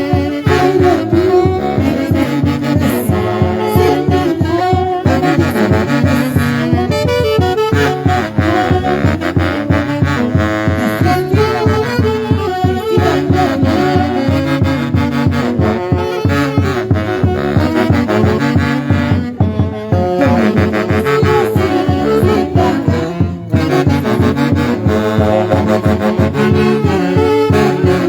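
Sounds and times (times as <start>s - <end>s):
saxophones and brass melody: 0.0s - 28.0s
steady beat: 0.0s - 28.0s.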